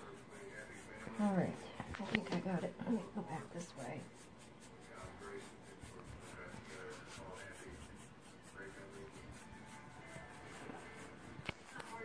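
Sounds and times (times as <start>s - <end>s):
paintbrush rubbing on paper: 0.0s - 12.0s.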